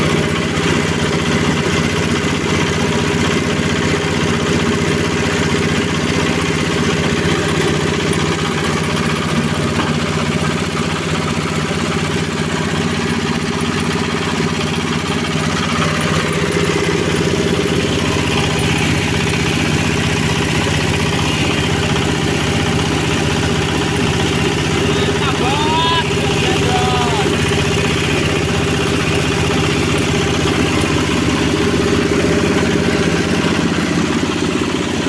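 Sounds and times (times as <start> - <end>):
grinding machine motor drone: 0.0 - 35.0.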